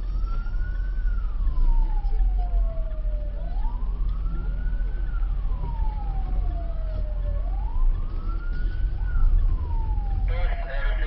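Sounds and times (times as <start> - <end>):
siren wailing up and down: 0.0 - 11.0
steady low rumble: 0.0 - 11.0.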